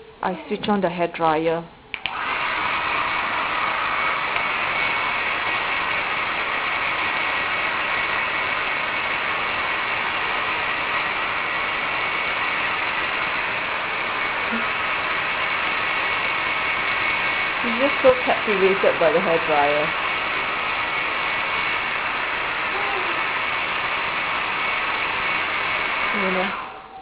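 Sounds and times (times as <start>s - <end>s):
hair dryer running: 2.0s - 27.0s.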